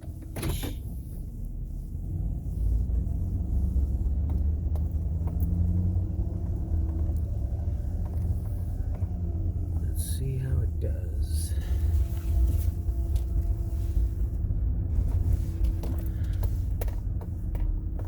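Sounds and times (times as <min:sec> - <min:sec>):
van engine rumbling: 0:00.0 - 0:18.0.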